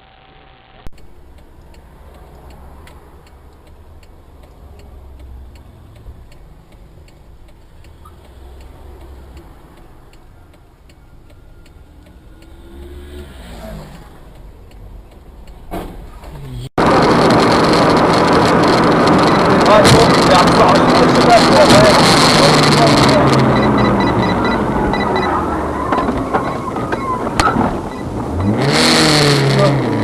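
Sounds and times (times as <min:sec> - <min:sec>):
car engine and road rumble: 0:00.0 - 0:30.0
steady ticking: 0:00.9 - 0:15.7, 0:16.8 - 0:30.0.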